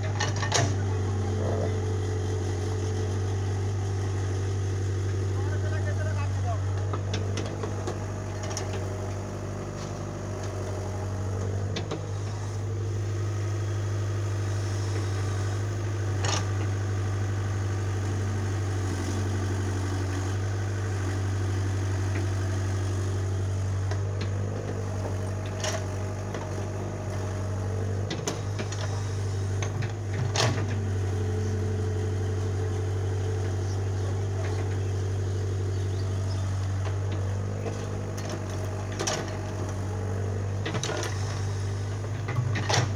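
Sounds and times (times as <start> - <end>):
excavator diesel engine drone: 0.0 - 42.9.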